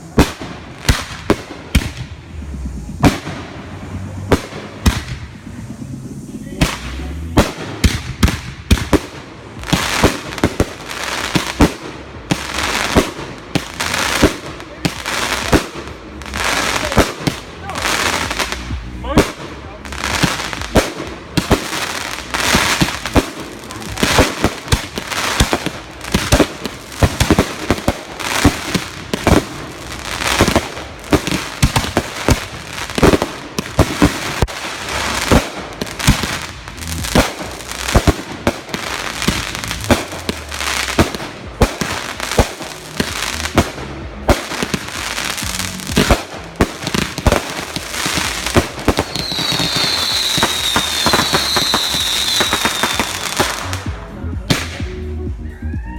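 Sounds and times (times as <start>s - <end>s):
fireworks bangs and crackles: 0.0s - 55.4s.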